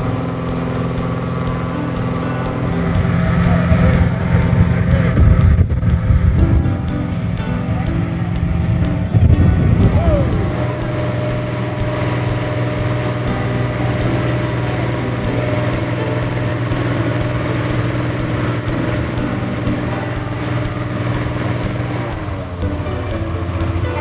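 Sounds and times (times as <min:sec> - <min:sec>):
inflator fan engine running: 0:00.0 - 0:24.0.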